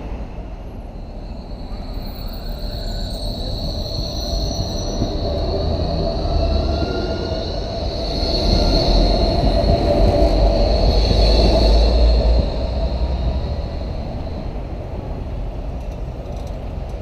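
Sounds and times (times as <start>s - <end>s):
tram wheels rumbling on rails: 0.0s - 17.0s
high-pitched wheel squeal: 1.0s - 14.6s.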